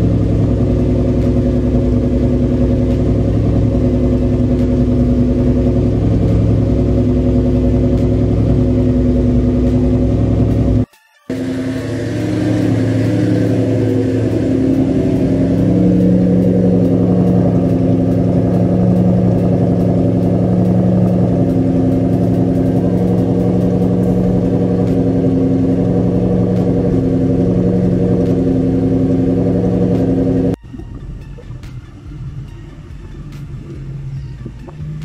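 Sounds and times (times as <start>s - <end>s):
car engine idling: 0.0s - 35.0s
faint low rumble: 0.0s - 35.0s.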